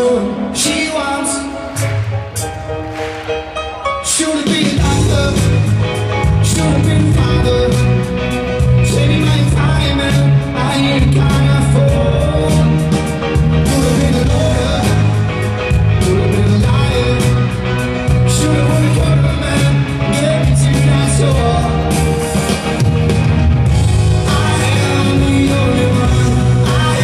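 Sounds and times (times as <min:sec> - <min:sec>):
live band playing: 0:00.0 - 0:27.0.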